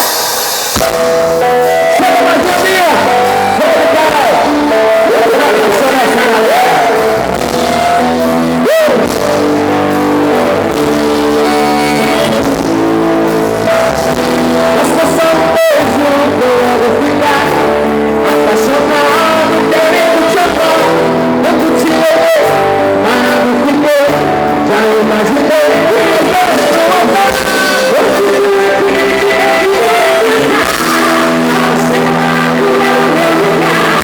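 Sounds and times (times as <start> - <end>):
band playing: 0.0 - 34.0
guitar: 0.0 - 34.0
person singing: 0.0 - 34.0.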